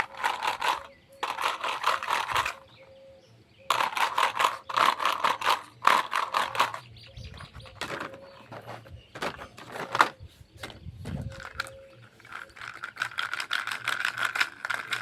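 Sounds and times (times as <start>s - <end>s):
plastic toy pieces clicking and rattling: 0.0s - 2.7s, 3.7s - 6.8s, 7.7s - 15.0s.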